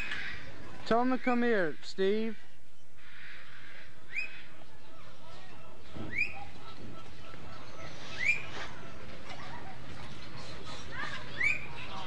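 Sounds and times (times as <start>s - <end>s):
bird chirping: 0.0s - 9.2s, 10.2s - 12.0s.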